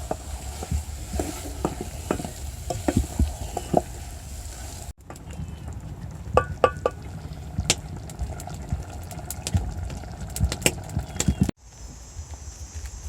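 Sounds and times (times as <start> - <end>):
fire clicks and pops: 0.0 - 11.5
low fire rumble: 0.0 - 11.5.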